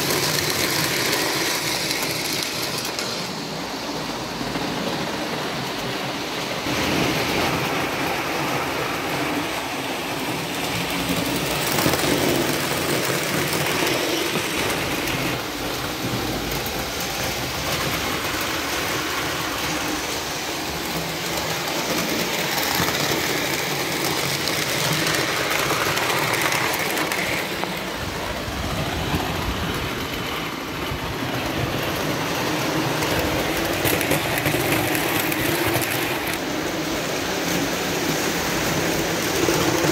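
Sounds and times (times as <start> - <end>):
model trains rumbling on track: 0.0 - 39.9.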